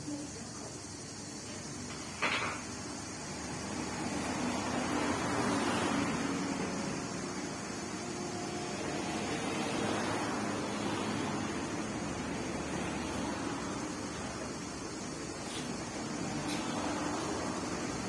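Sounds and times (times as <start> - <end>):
electric fan whirring: 0.0 - 18.0.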